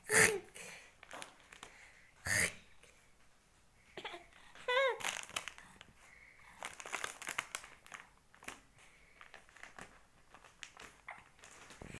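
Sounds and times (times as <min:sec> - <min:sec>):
rustling and crinkling: 0:00.9 - 0:02.0, 0:03.2 - 0:11.9.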